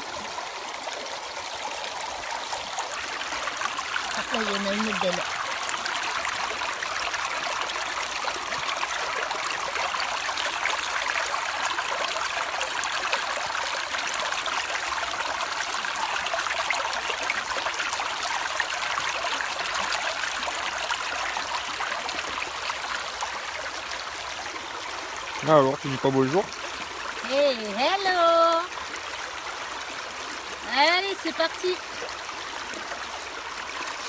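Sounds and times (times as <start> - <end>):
river water rushing over stones: 0.0 - 34.0.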